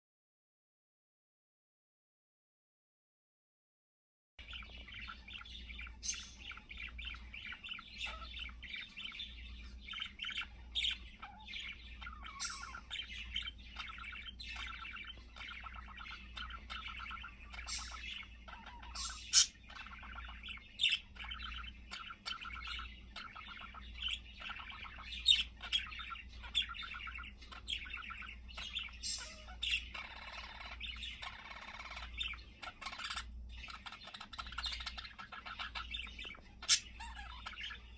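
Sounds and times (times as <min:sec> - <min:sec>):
budgerigar warbling: 0:04.4 - 0:37.9.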